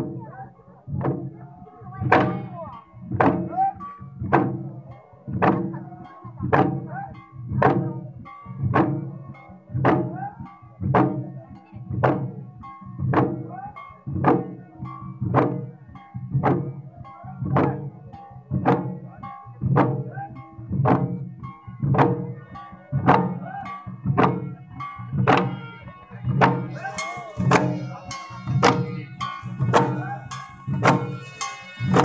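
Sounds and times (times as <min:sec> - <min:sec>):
hand drums beating: 0:00.0 - 0:32.0.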